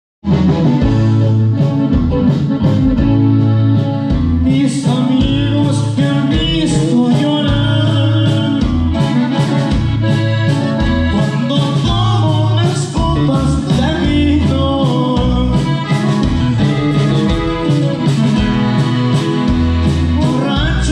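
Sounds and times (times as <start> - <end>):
acoustic guitar: 0.2 - 20.9
drums and cymbals: 0.2 - 20.9
electric bass: 0.2 - 20.9
button accordion: 0.3 - 20.9.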